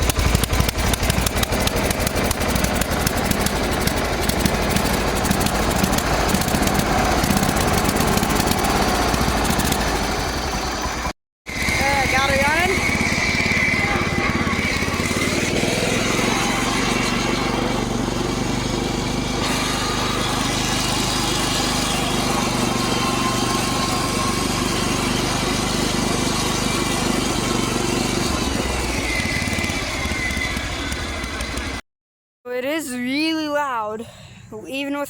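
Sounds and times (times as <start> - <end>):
lawn tractor engine running: 0.0 - 31.8.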